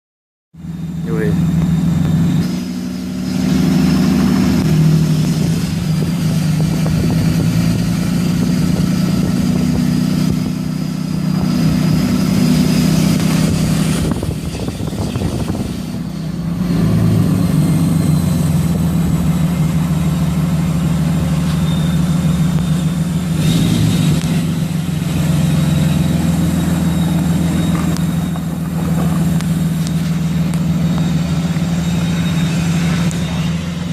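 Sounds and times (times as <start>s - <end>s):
diesel engine running: 0.5s - 33.9s
thin high turbo whine: 0.6s - 33.9s.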